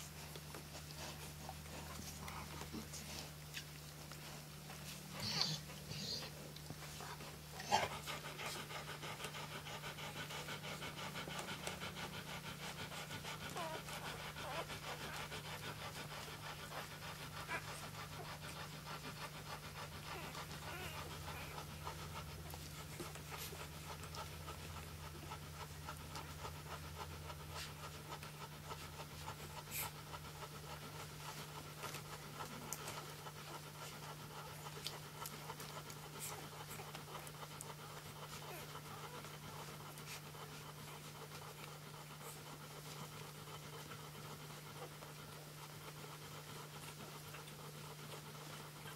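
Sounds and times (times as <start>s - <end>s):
dog panting: 0.0s - 48.9s
steady low hum: 0.0s - 48.9s.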